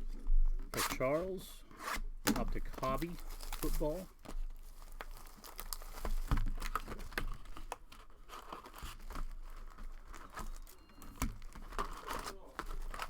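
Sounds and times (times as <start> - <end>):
card packaging tearing and crinkling: 0.6 - 13.0.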